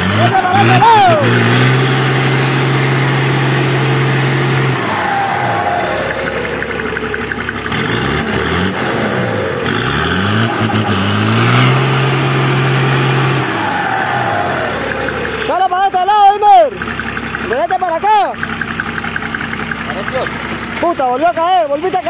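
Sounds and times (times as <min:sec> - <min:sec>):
diesel truck engine straining: 0:00.0 - 0:22.0.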